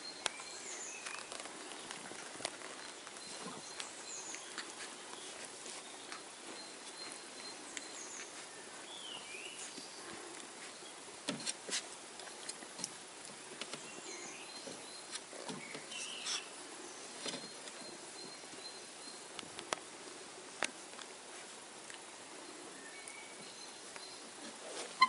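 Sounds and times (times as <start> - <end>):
puppies rustling on bedding: 0.2 - 22.4.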